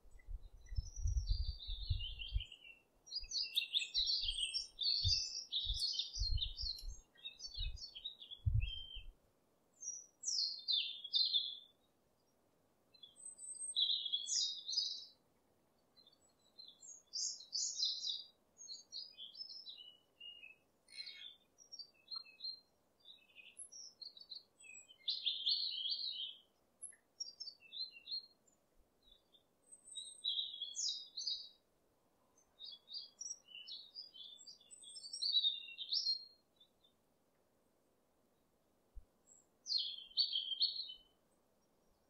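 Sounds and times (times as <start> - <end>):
songbirds chirping and singing: 0.1 - 9.1, 9.8 - 11.8, 13.0 - 15.2, 16.0 - 31.6, 32.4 - 37.0, 39.3 - 41.2.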